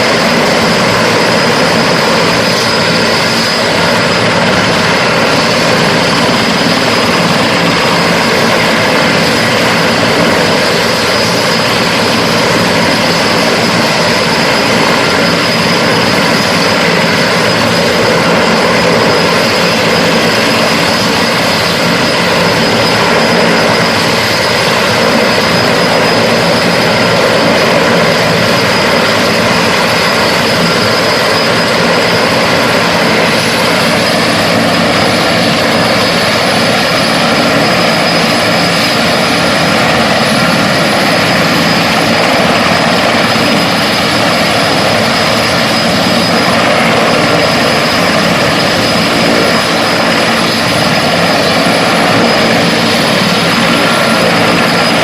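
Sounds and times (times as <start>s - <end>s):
helicopter rotor noise: 0.0s - 55.0s
turbine engine whine: 0.0s - 55.0s.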